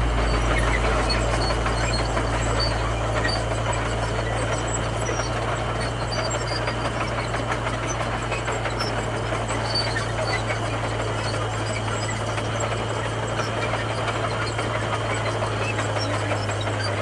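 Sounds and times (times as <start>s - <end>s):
bulldozer diesel engine humming: 0.0s - 17.0s.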